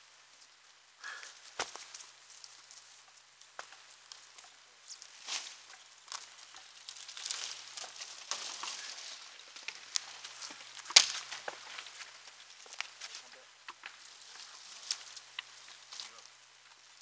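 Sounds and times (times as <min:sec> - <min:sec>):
twigs rustling and crackling: 0:00.0 - 0:17.0
sharp snaps of twigs: 0:00.4 - 0:16.8.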